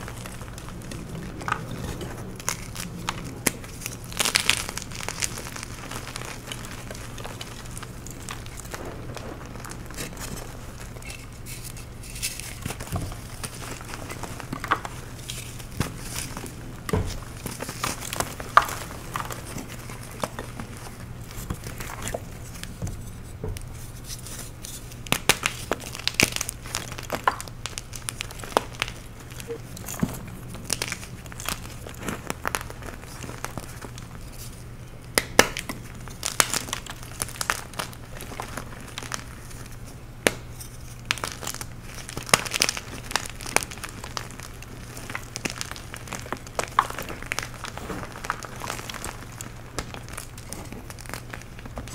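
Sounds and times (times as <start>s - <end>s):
chalk crunching and crumbling: 0.0s - 51.9s
faint low hum: 0.0s - 51.9s.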